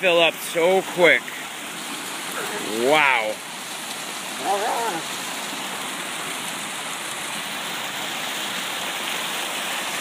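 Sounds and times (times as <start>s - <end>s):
water rushing over a spillway: 0.0s - 10.0s.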